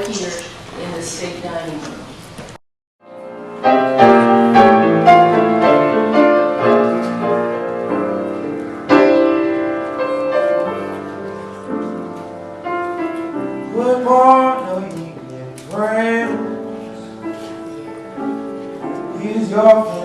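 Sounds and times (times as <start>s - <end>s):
piano chords: 3.0s - 20.0s.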